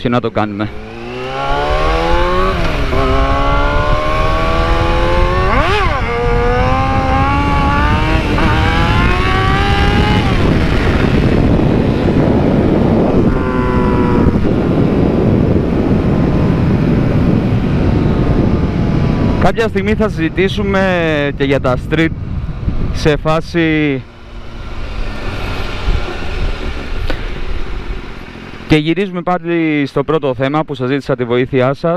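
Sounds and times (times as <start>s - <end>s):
motorcycle engine accelerating: 0.5s - 28.9s
wind rush on microphone: 0.8s - 28.3s.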